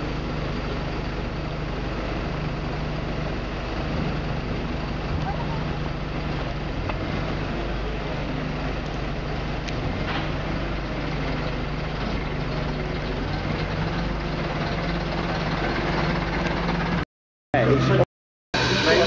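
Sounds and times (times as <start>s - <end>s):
bus diesel engine running: 0.0s - 18.0s, 18.6s - 19.0s.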